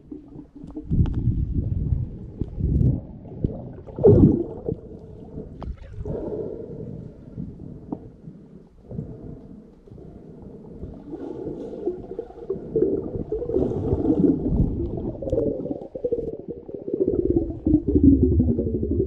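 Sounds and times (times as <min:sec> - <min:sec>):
muffled underwater water churning: 0:00.0 - 0:19.0.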